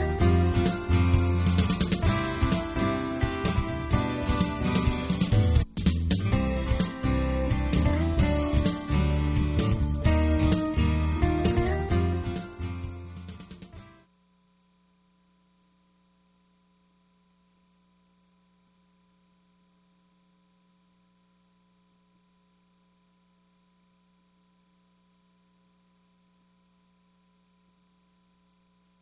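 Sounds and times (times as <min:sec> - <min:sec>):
faint electrical hum with hiss: 0:00.0 - 0:29.0.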